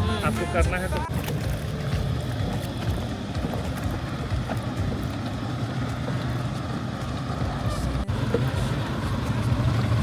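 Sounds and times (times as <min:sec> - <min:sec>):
rushing wind and water: 0:00.0 - 0:10.0
speed boat engine rumble: 0:00.0 - 0:10.0.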